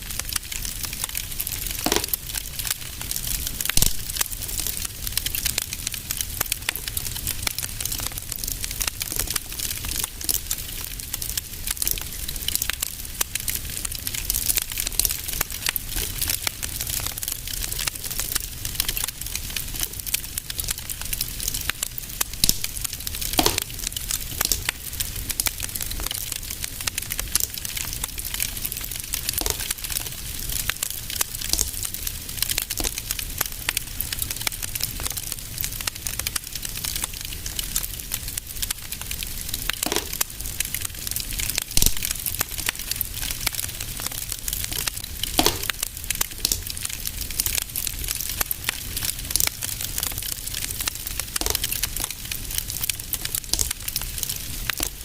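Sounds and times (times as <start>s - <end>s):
fireplace fire crackling: 0.0s - 55.0s
loud fire pops: 0.1s - 55.0s.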